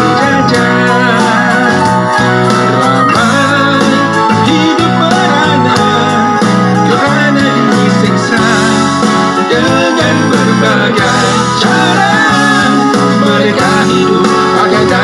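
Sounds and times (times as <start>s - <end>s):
guitar-led music: 0.0s - 15.0s.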